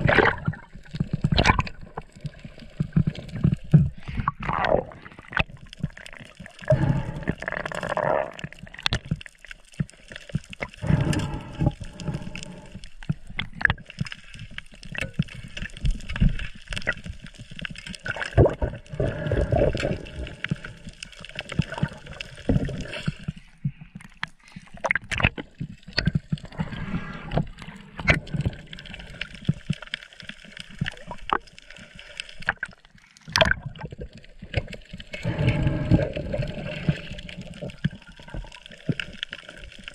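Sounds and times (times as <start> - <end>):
underwater gurgling and bubbling: 0.0 - 39.9.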